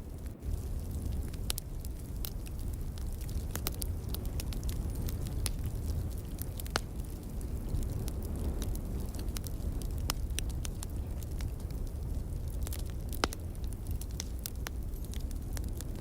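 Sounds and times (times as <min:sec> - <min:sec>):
logs crackling in fireplace: 0:00.0 - 0:16.0.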